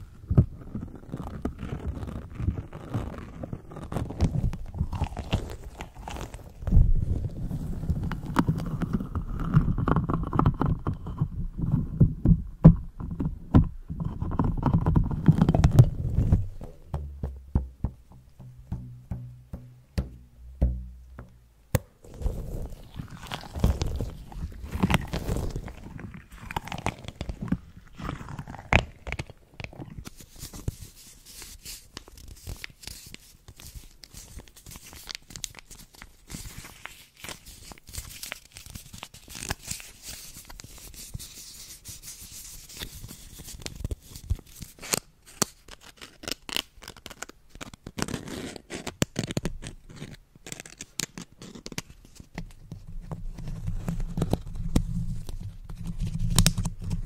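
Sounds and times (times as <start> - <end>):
puffer ball squeezed: 0.2 - 57.0.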